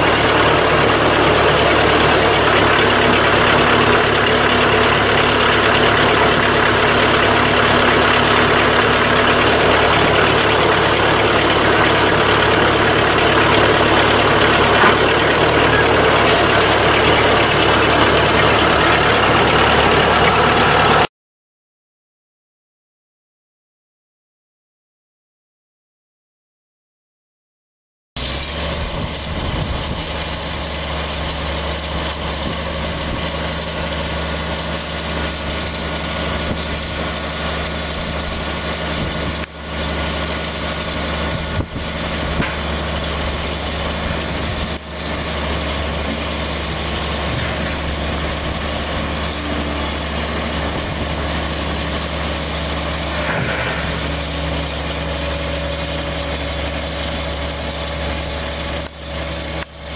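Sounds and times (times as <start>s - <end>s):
engine idling: 0.0s - 21.1s, 28.2s - 59.9s.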